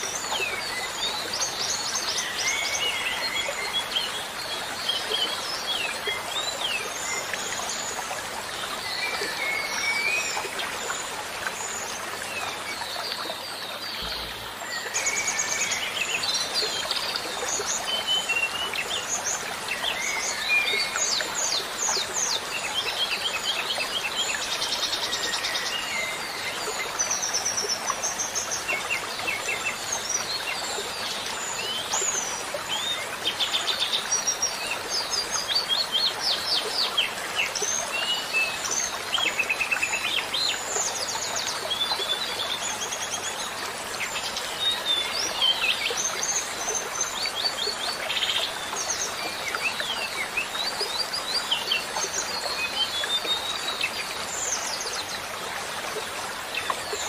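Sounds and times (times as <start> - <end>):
songbirds chirping and trilling: 0.0 - 55.3
running water hiss: 0.0 - 57.0.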